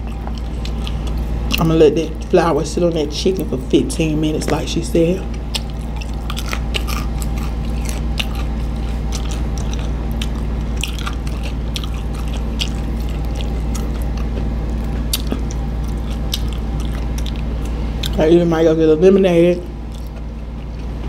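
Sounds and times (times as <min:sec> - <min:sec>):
chewing crunchy fried chicken: 0:00.0 - 0:18.7, 0:19.6 - 0:21.0
steady low hum: 0:00.0 - 0:21.0.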